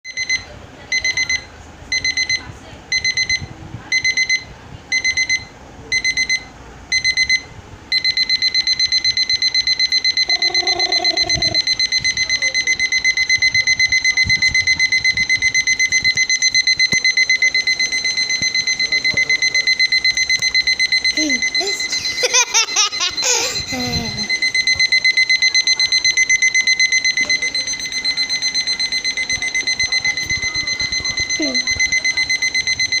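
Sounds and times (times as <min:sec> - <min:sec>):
electronic alarm beeping: 0:00.1 - 0:33.0.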